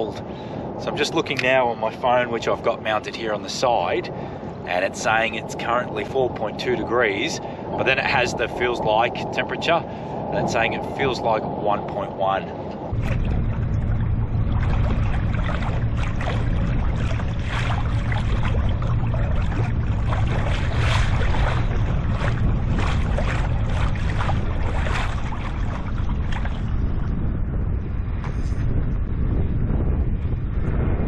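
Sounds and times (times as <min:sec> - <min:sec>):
water slapping against hull: 0:00.0 - 0:27.2
wind buffeting microphone: 0:00.0 - 0:31.0.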